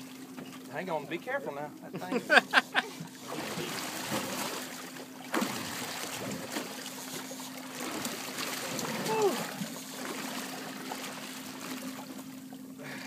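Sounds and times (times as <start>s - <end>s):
water sloshing against boat hull: 0.0s - 12.8s
faint steady hum: 0.0s - 13.0s.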